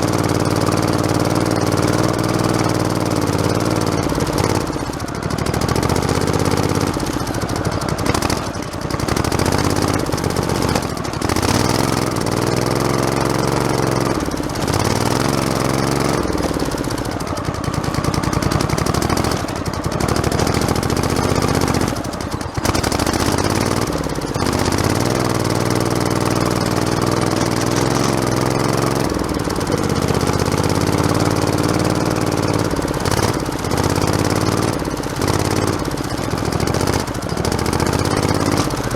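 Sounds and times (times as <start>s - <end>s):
small tractor engine running: 0.0s - 38.9s.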